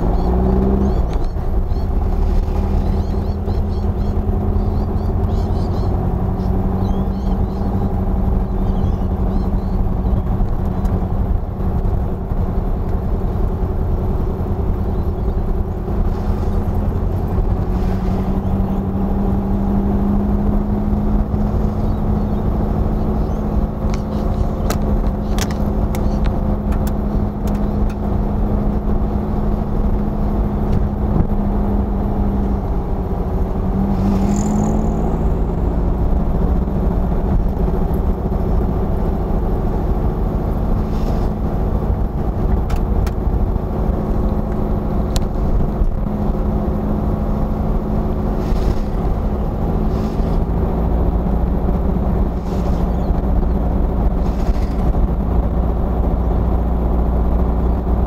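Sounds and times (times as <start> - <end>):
car engine droning from inside: 0.0 - 58.0.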